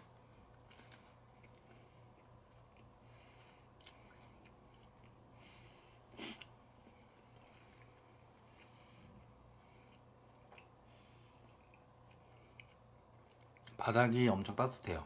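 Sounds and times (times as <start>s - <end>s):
person chewing food: 0.0s - 13.8s
faint electrical hum: 0.0s - 15.0s.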